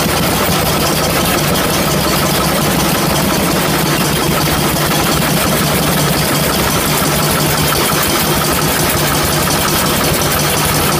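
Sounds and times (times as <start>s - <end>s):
stationary engines idling: 0.0s - 10.9s.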